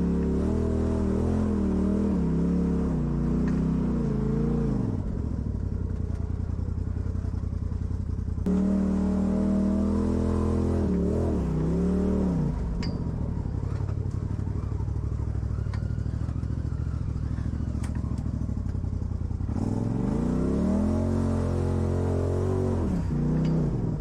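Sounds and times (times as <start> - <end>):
vehicle engine revving: 0.0 - 7.4, 8.0 - 24.0.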